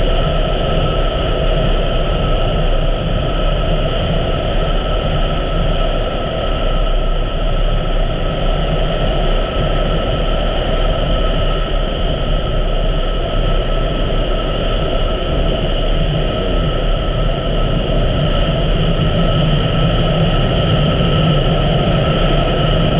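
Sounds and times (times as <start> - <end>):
wind and road noise: 0.0 - 22.9.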